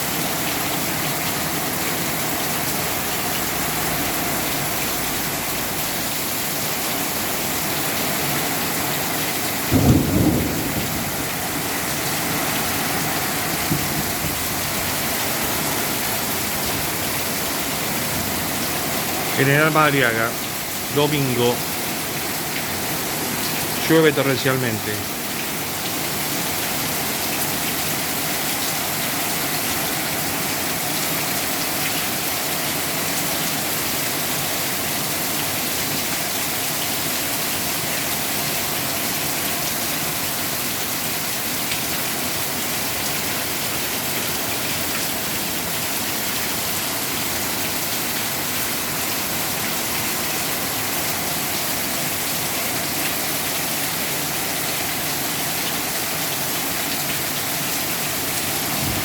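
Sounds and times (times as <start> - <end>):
torrential rain pouring: 0.0 - 59.0
water gushing: 0.0 - 59.0.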